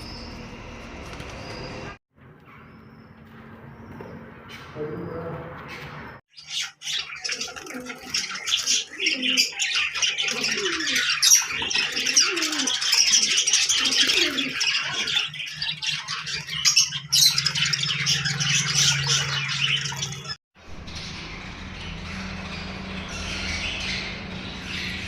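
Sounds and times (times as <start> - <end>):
birds chirping and squawking: 0.0 - 25.0.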